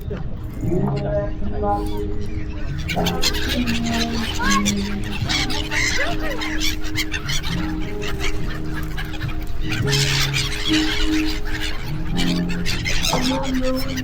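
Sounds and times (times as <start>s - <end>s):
gulls squawking: 0.3s - 14.0s.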